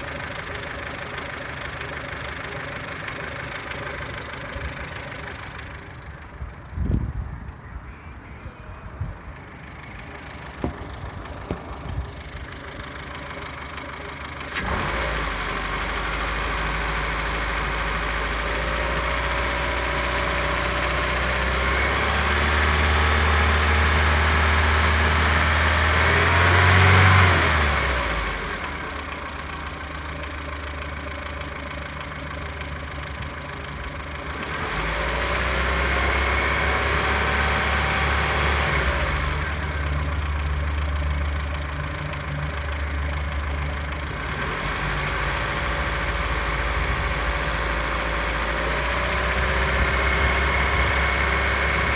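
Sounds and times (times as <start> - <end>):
car engine starting and revving: 0.0 - 51.9.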